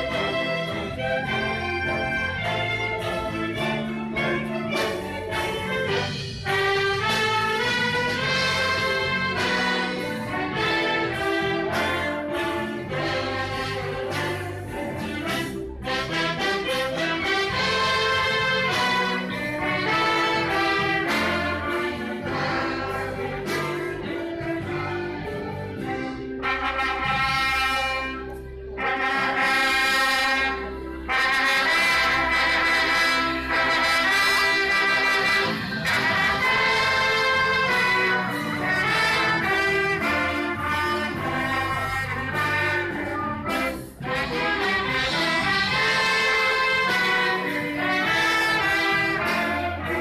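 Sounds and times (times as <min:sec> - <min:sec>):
brass section: 0:00.0 - 0:50.0
orchestra playing slow chords: 0:00.0 - 0:50.0.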